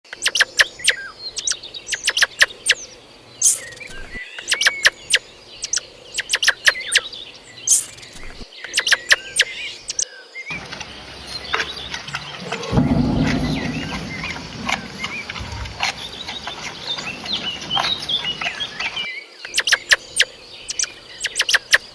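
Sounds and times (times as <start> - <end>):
songbirds chirping: 0.7 - 21.9.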